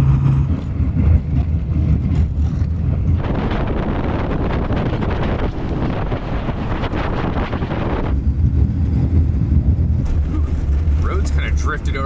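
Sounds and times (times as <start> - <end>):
diesel engine rumble: 0.0 - 12.0
road noise: 0.0 - 12.0
wind rushing over microphone: 0.0 - 12.0.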